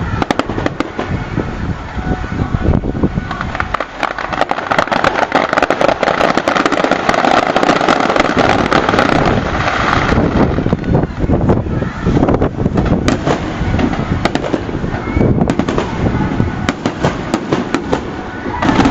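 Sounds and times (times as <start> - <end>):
fireworks crackling: 0.0 - 18.9
hissing rush: 0.0 - 18.9
low booms: 0.0 - 18.9.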